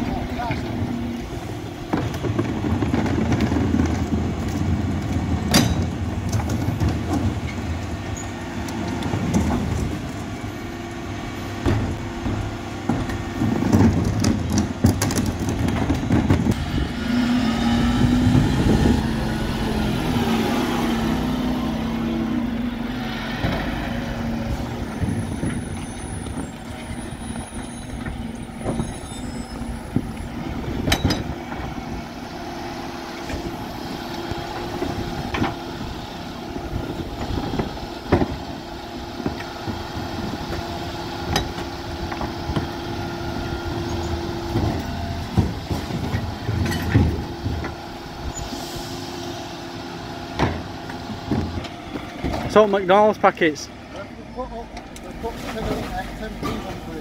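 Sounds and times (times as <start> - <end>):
bin lift whining: 0.0 - 57.0
truck engine rumble: 0.0 - 57.0.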